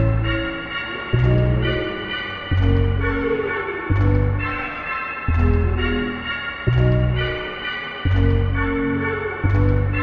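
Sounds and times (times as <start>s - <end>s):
held chords: 0.0s - 10.0s.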